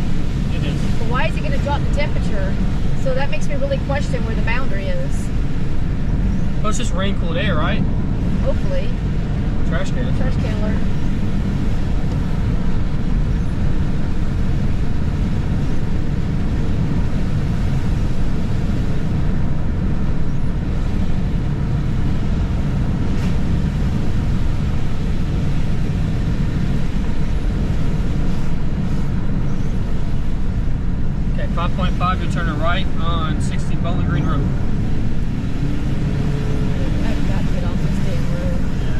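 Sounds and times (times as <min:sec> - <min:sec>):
car road noise from inside: 0:00.0 - 0:38.9.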